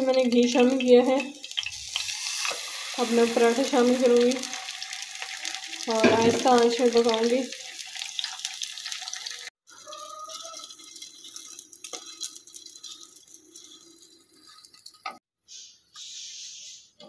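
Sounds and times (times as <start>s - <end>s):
flatbread sizzling in ghee: 0.0s - 15.2s.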